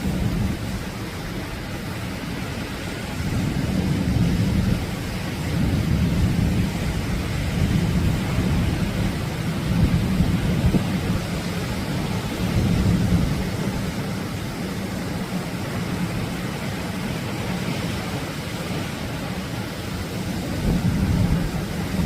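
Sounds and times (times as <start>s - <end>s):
waves breaking: 0.0s - 22.0s.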